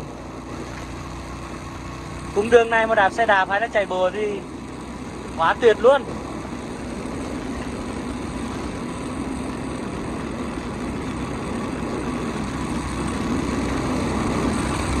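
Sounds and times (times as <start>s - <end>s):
road and wind noise: 0.0s - 15.0s
vehicle engine running: 0.0s - 15.0s.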